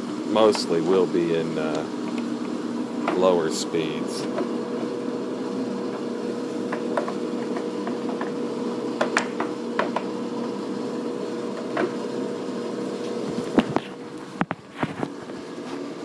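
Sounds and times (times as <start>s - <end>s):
lathe humming: 0.0s - 16.0s.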